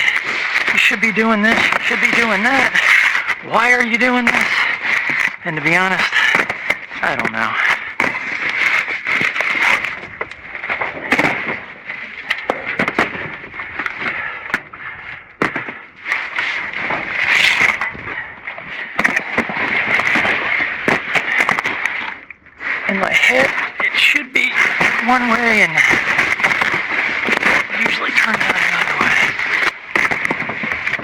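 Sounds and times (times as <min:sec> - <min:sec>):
debris crackling and clattering: 0:00.0 - 0:31.0.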